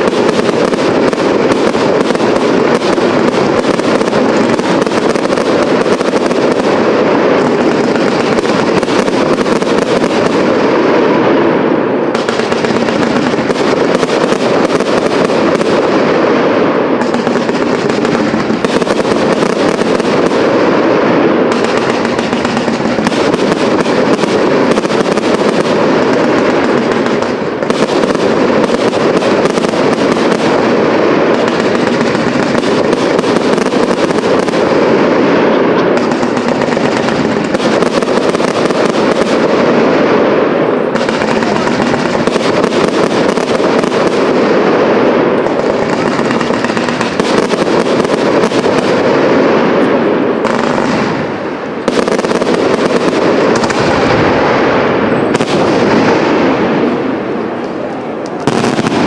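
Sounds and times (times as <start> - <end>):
fireworks bursts and crackle: 0.0 - 59.0.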